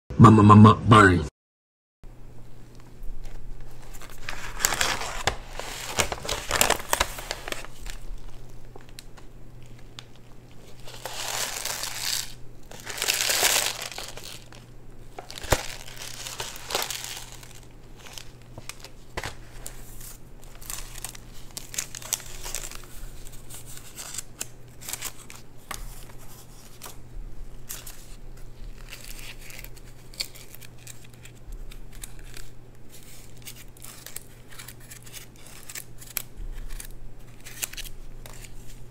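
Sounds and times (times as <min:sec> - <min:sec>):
faint steady hum: 0:02.1 - 0:38.9
food wrappers crinkling: 0:02.7 - 0:38.9.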